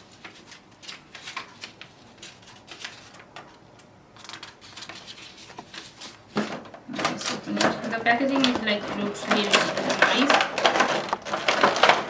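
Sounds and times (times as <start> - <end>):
cardboard and paper rustling: 0.0 - 12.0.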